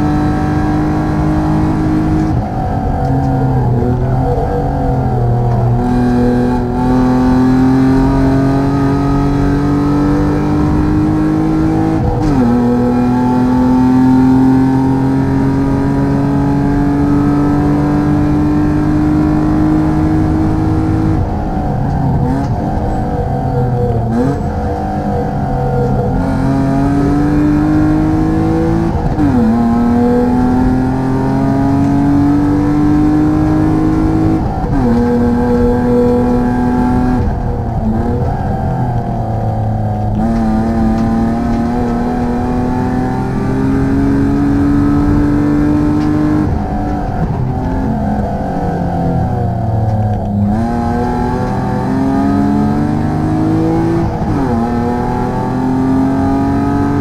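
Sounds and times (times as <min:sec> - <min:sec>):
race car engine pulling hard: 0:00.0 - 0:57.0.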